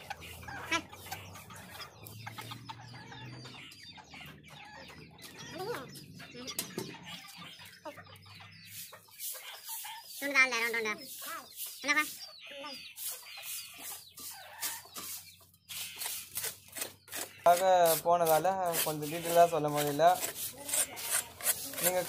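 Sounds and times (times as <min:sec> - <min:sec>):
chicken clucking: 0:00.0 - 0:22.0.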